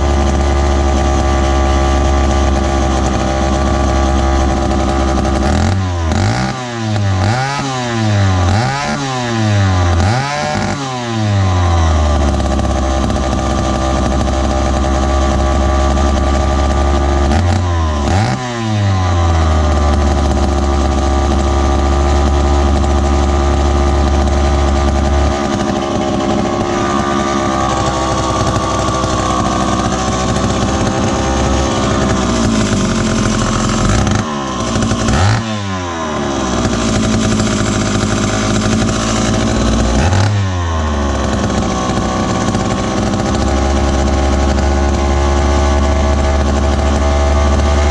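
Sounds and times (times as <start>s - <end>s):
chainsaw engine revving: 0.0s - 47.9s.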